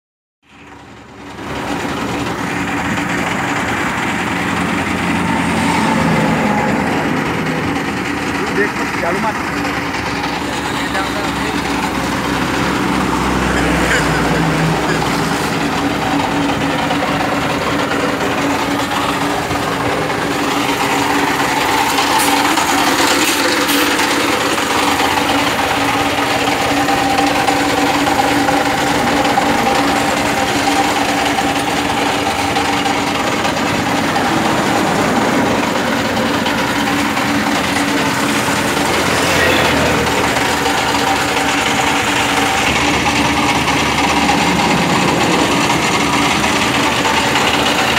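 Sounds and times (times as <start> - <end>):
engine humming with faint whine: 0.4 - 47.9.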